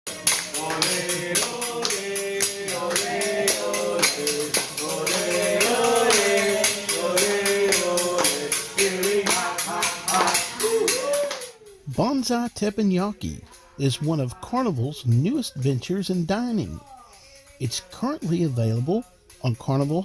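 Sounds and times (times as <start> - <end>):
fast metallic beat: 0.1 - 20.0
upbeat music with singing: 0.1 - 20.0.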